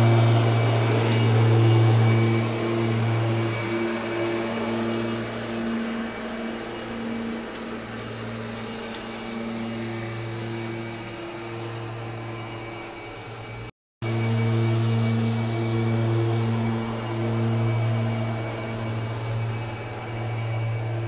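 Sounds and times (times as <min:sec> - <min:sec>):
blades whirring through leaves: 0:00.0 - 0:21.0
electric mower hum: 0:00.0 - 0:21.0.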